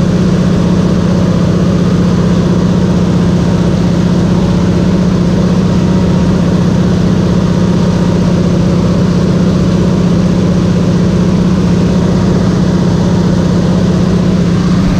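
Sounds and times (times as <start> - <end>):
propeller airplane engine drone: 0.0 - 14.9.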